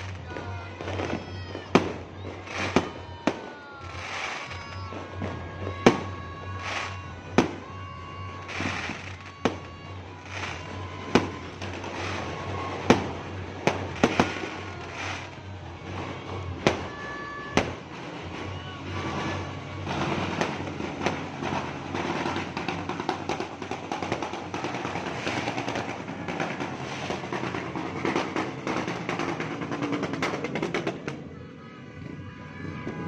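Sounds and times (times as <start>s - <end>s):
fireworks crackling: 0.0s - 31.4s
fireworks bangs: 0.0s - 33.0s.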